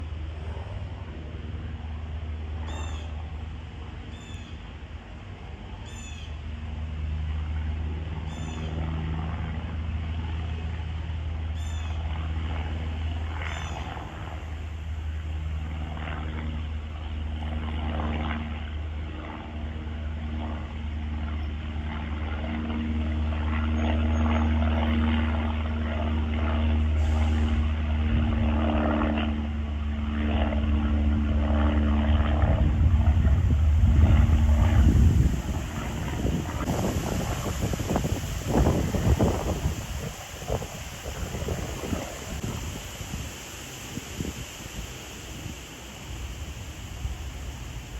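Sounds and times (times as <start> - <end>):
propeller plane droning overhead: 0.0 - 47.9.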